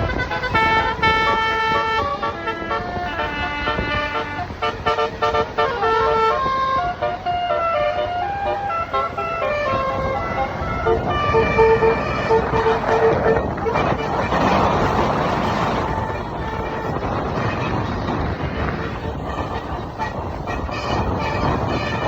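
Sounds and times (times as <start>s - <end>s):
low vehicle rumble: 0.0s - 22.0s
musical vehicle horn melody: 0.0s - 22.0s.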